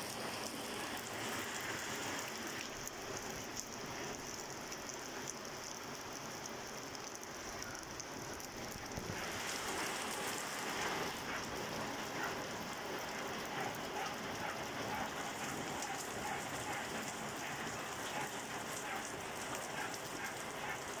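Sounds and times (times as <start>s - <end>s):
rain on plants and paving: 0.0s - 21.0s.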